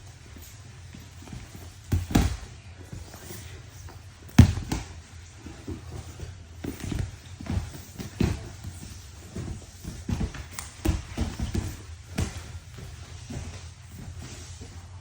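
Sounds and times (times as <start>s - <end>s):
bodies thudding on mats: 0.0s - 15.0s
shuffling on mats: 0.0s - 15.0s.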